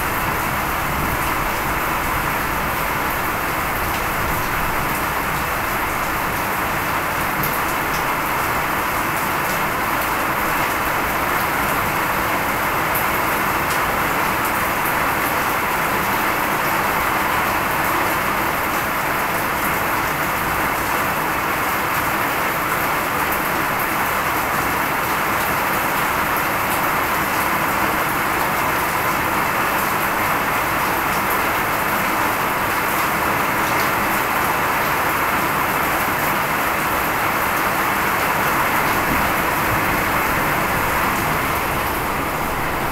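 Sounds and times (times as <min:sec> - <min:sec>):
rain falling on water: 0:00.0 - 0:42.9.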